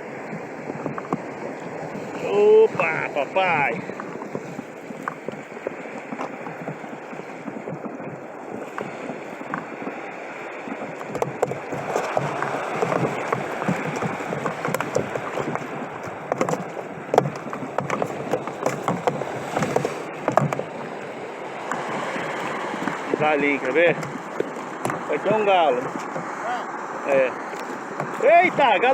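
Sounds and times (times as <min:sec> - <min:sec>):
water splashing against a kayak: 0:00.0 - 0:28.9.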